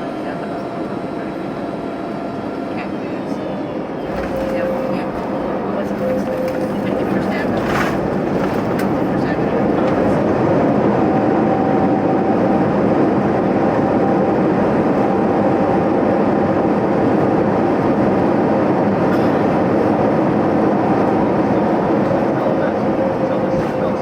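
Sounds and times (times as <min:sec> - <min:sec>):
aircraft engines droning: 0:00.0 - 0:24.0.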